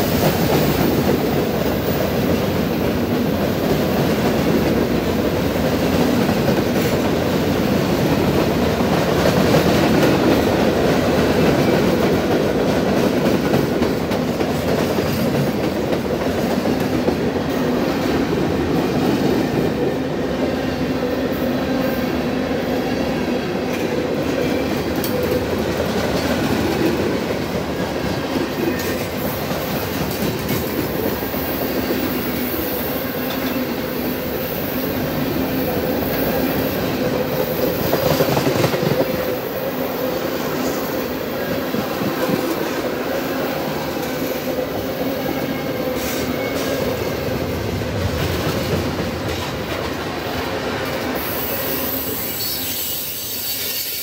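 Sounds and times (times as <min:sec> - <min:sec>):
train wheels clattering on rails: 0:00.0 - 0:20.4, 0:23.6 - 0:54.0.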